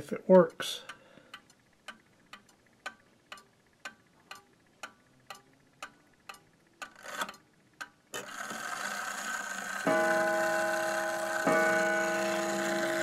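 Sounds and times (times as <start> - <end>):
clock movement whirring: 0.0 - 13.0
clock ticking: 0.0 - 13.0.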